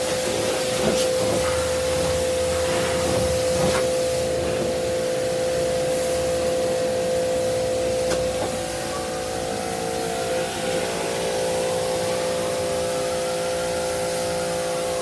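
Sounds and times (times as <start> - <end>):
cleaning machine motor whine: 0.0 - 15.0.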